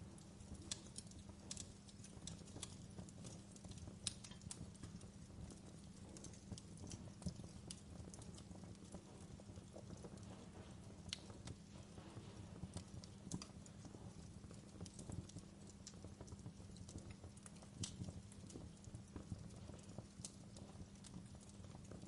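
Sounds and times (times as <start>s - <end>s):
burning logs crackling and popping: 0.0s - 22.0s
flames rumbling: 0.0s - 22.0s.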